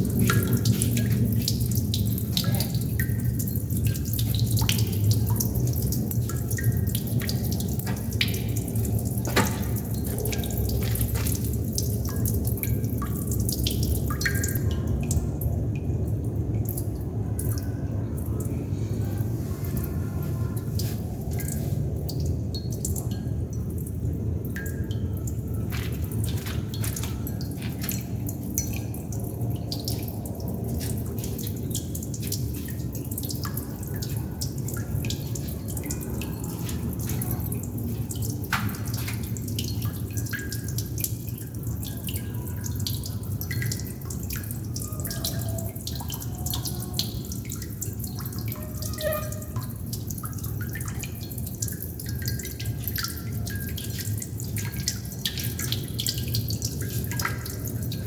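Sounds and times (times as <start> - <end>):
low water rumble: 0.0 - 58.0
water droplets dripping: 0.0 - 58.0.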